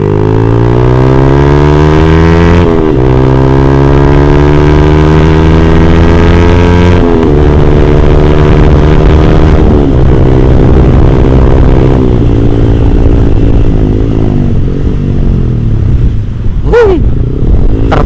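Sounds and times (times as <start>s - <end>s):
motorcycle engine running loud: 0.0s - 18.0s.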